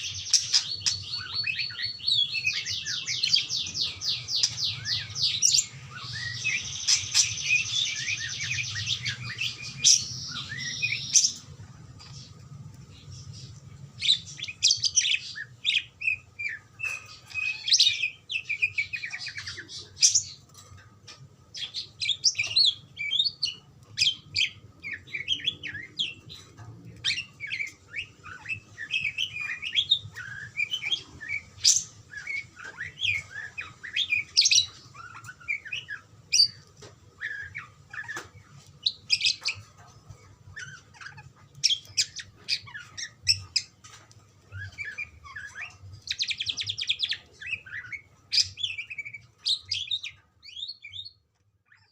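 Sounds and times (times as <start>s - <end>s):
budgerigars chirping: 0.0s - 12.3s, 12.9s - 20.5s, 21.1s - 51.9s.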